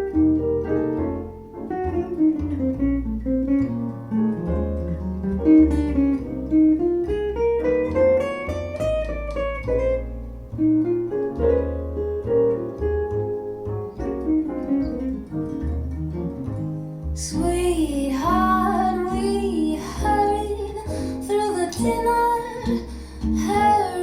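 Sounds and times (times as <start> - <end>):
bass: 0.0 - 24.0
jazz guitar solo: 0.0 - 24.0.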